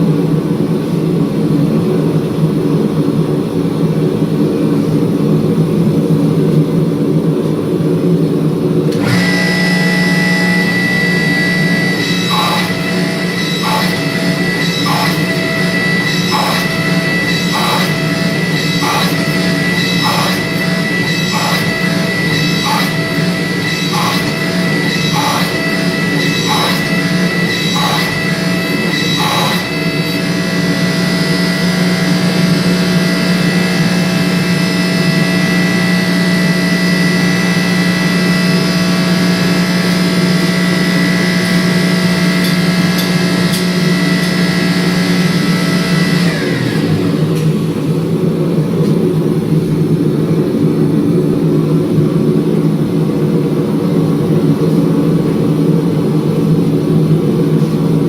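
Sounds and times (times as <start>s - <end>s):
shop machinery whining: 0.0s - 58.0s
steady low hum: 0.0s - 58.0s.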